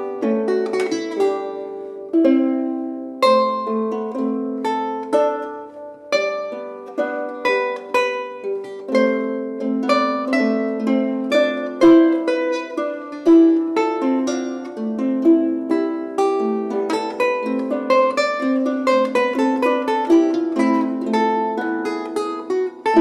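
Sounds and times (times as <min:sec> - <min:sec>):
plucked harps and lute: 0:00.0 - 0:23.0.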